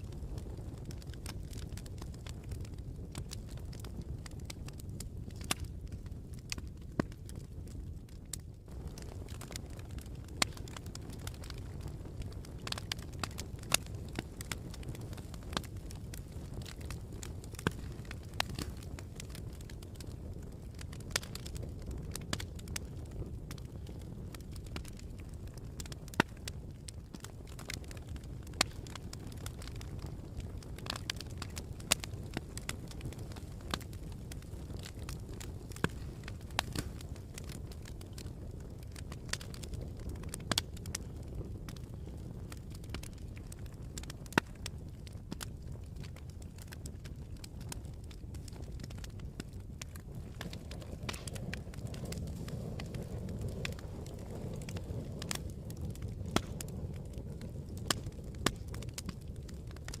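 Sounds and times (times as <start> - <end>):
campfire crackling and popping: 0.0 - 60.0
sharp fire snaps: 0.0 - 60.0.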